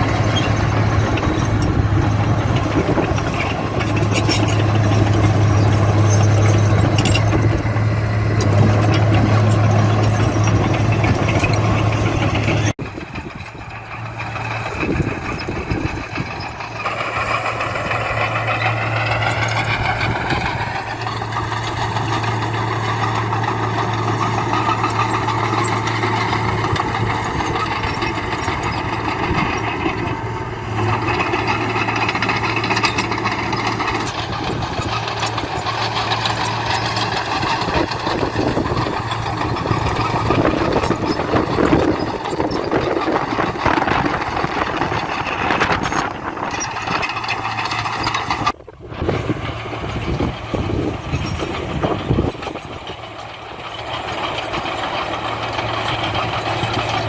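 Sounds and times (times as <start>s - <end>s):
engine rising whine: 0.0s - 57.0s
heavy diesel engine running: 0.0s - 57.0s.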